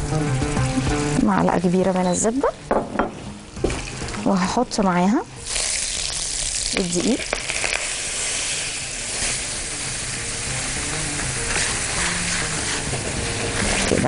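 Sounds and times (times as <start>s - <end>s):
butter and oil sizzling in a pan: 0.0s - 14.0s.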